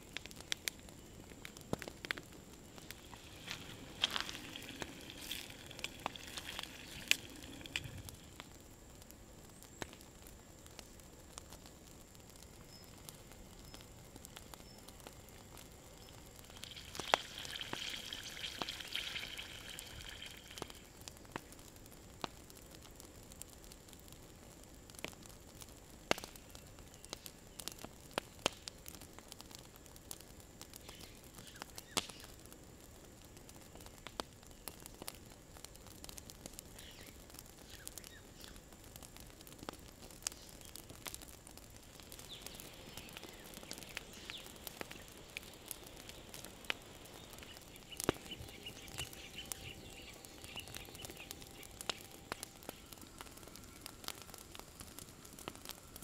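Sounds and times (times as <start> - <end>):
campfire crackling and popping: 0.0 - 56.0
sizzling hiss: 0.0 - 56.0.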